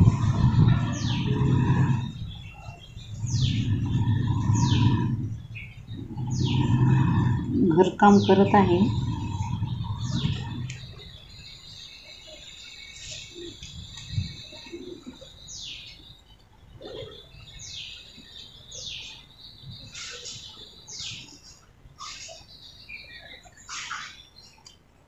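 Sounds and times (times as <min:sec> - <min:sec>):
high bird trills: 0:00.0 - 0:16.2, 0:19.8 - 0:24.4
birds chirping: 0:00.0 - 0:25.0.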